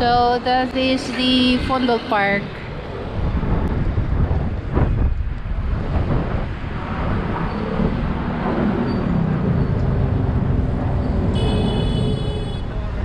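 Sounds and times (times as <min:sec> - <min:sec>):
road traffic passing: 0:00.0 - 0:13.0
wind rumbling on microphone: 0:00.0 - 0:13.0.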